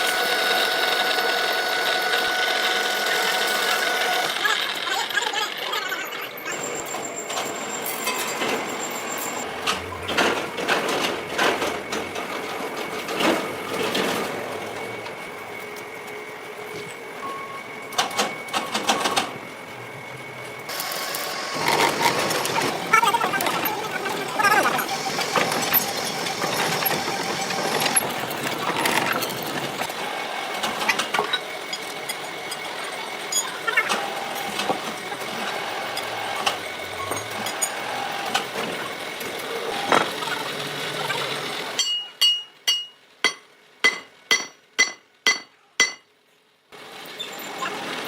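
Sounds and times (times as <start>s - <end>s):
machine running steadily: 0.0s - 46.0s.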